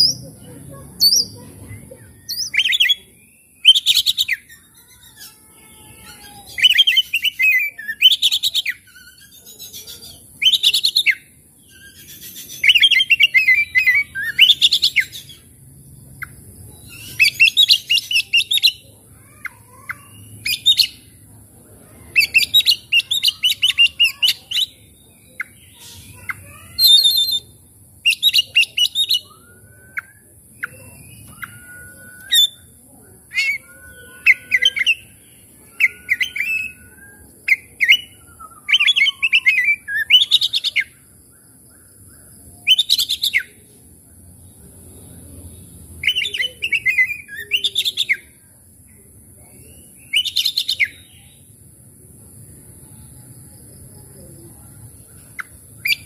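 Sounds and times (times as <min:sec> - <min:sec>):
songbird whistling and chattering: 0:00.0 - 0:21.2, 0:22.0 - 0:43.7, 0:44.5 - 0:51.5, 0:54.9 - 0:56.0.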